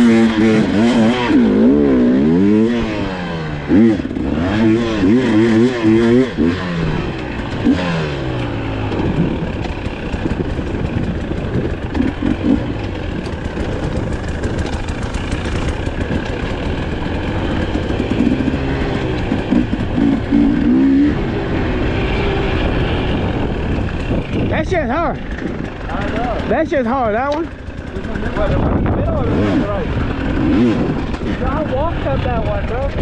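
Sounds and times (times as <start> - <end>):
dirt bike engines revving: 0.0 - 33.0
engines idling: 0.0 - 33.0.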